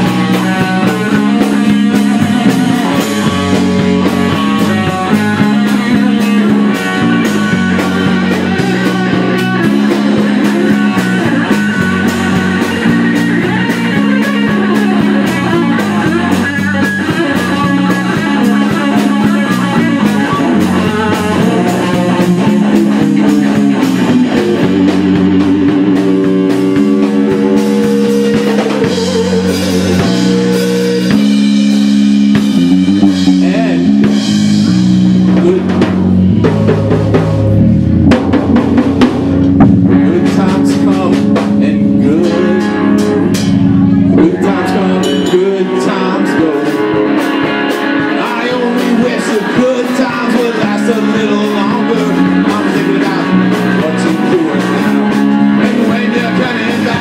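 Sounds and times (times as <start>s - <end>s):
bass guitar: 0.0s - 57.0s
drum kit steady beat: 0.0s - 57.0s
electric guitar: 0.0s - 57.0s.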